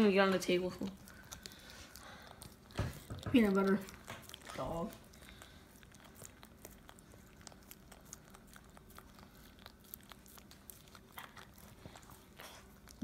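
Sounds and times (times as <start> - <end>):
dog licking smacks: 0.8 - 13.0.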